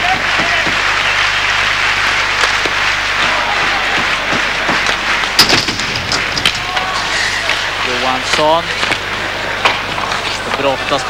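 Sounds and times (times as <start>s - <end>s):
arena crowd cheering and applauding: 0.0s - 11.0s.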